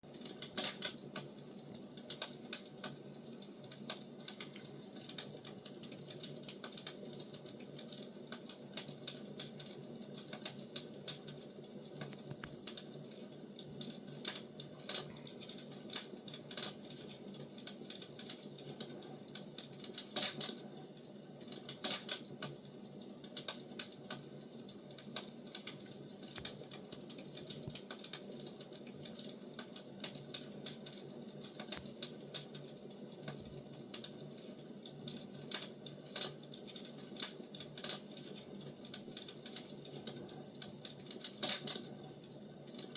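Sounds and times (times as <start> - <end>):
firewood crackling and popping: 0.1 - 42.9.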